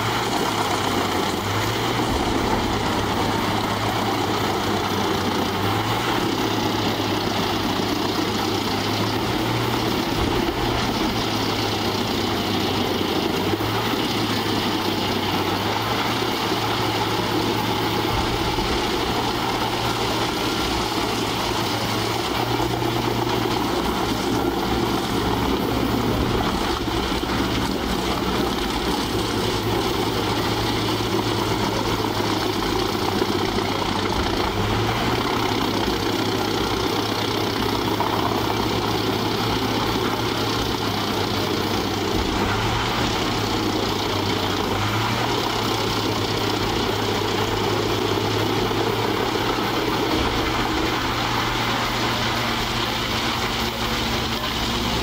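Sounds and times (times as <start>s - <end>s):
wood chipper engine drone: 0.0s - 55.0s.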